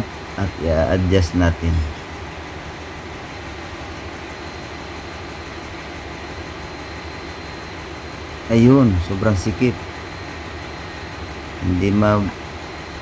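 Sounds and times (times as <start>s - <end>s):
high-pitched whine: 0.0s - 2.3s, 3.2s - 13.0s
ship engine room machinery hum: 0.0s - 13.0s.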